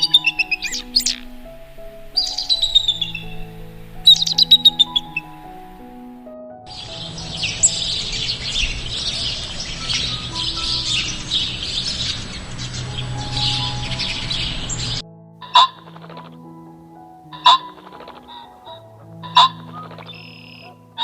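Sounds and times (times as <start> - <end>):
chorus of small birds chirping: 0.0 - 5.5, 6.7 - 16.4, 17.3 - 21.0.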